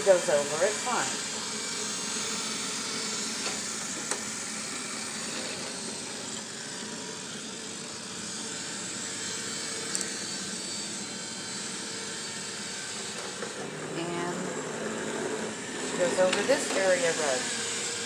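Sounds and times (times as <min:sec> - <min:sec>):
robot vacuum running: 0:00.0 - 0:18.0.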